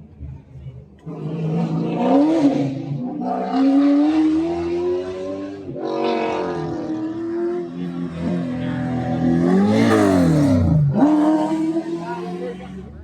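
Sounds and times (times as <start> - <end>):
car engine revving: 1.0 - 13.0.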